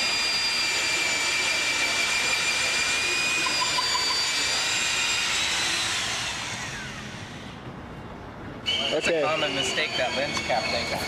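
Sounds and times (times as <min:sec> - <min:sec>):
power drill whining: 0:00.0 - 0:07.6, 0:08.6 - 0:11.0.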